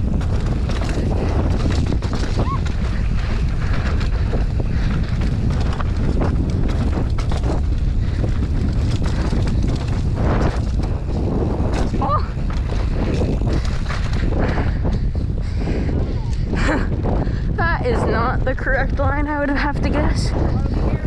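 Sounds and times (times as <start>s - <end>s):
bike knocks and rattles: 0.0s - 21.0s
tyres rolling on dirt: 0.0s - 21.0s
wind buffeting microphone: 0.0s - 21.0s.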